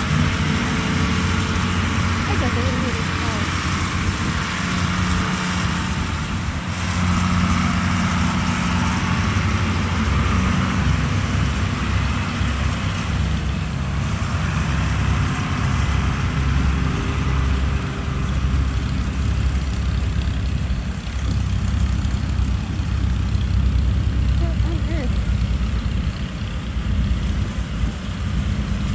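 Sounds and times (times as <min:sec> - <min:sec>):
tractor engines running: 0:00.0 - 0:28.9.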